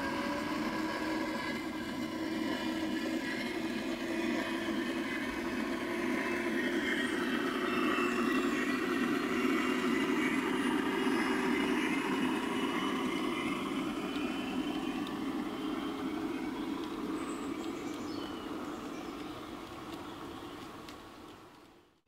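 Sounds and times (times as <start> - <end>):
model train rolling on track: 0.0 - 22.0.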